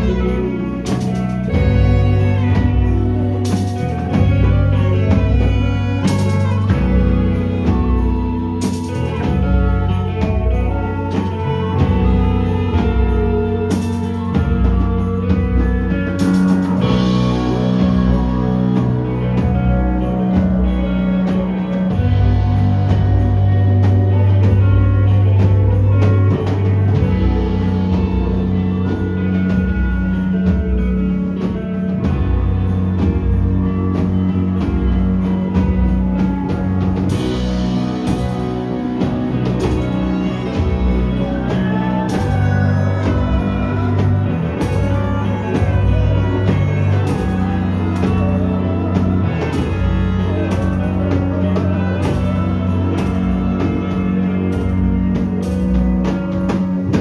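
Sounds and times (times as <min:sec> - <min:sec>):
drum kit: 0:00.0 - 0:57.0
electric guitar: 0:00.0 - 0:57.0
held bass notes: 0:00.0 - 0:57.0.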